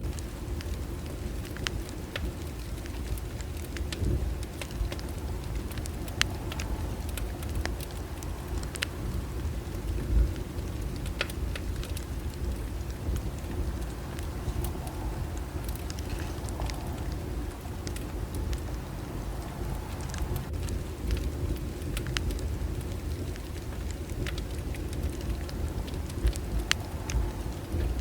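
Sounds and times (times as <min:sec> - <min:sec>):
bonfire rumbling: 0:00.0 - 0:28.0
burning wood crackling and popping: 0:00.0 - 0:28.0.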